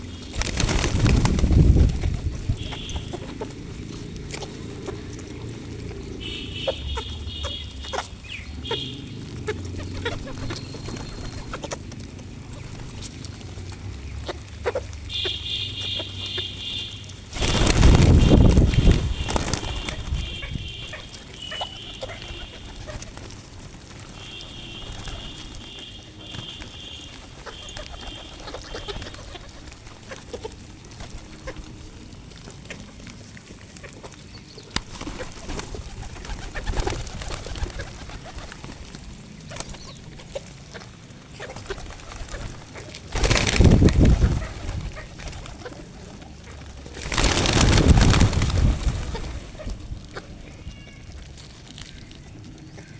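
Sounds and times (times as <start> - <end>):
pigeons cooing: 0.0 - 52.9.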